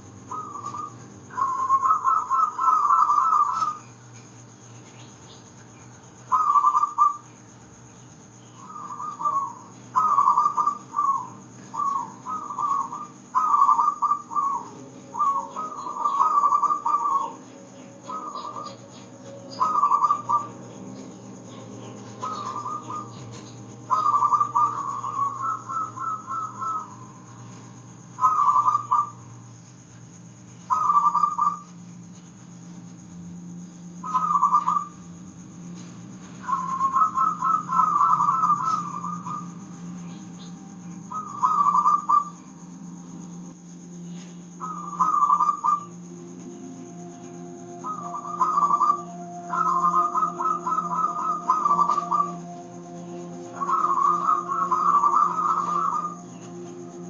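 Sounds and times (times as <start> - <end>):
dove cooing: 0.0 - 4.1, 6.2 - 7.4, 8.5 - 29.3, 30.7 - 32.1, 33.9 - 35.2, 35.8 - 42.8, 44.2 - 57.0.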